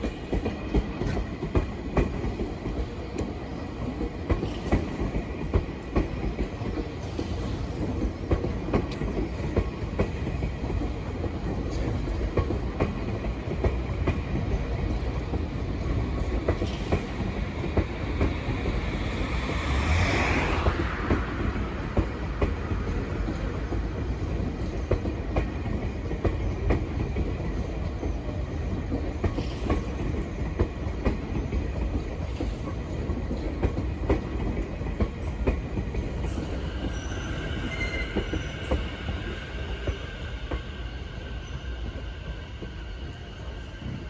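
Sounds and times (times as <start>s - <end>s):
train rumbling on rails: 0.0s - 44.0s.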